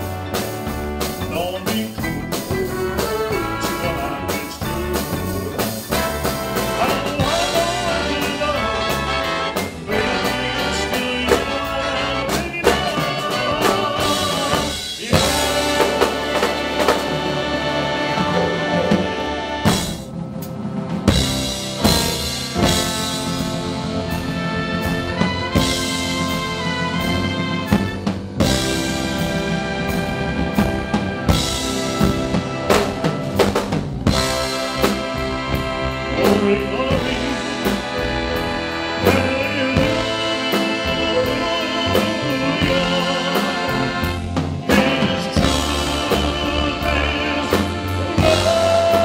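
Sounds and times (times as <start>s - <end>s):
big band jazz: 0.0s - 49.0s
brass and saxophone sections: 0.0s - 49.0s
drum kit: 0.0s - 49.0s.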